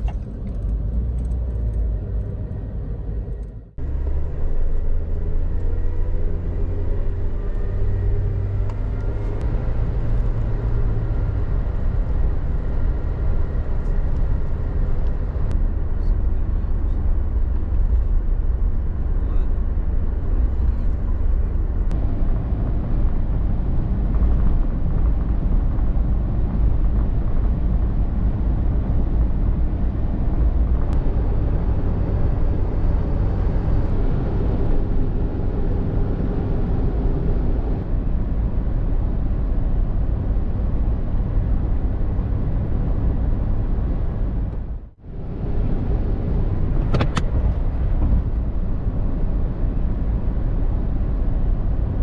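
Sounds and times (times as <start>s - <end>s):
vehicle rumbling: 0.0s - 52.0s.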